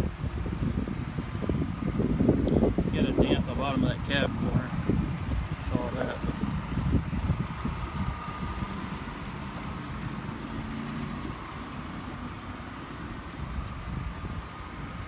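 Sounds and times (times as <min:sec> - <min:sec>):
vehicle engine idling: 0:00.0 - 0:15.0
wind buffeting microphone: 0:00.0 - 0:15.0.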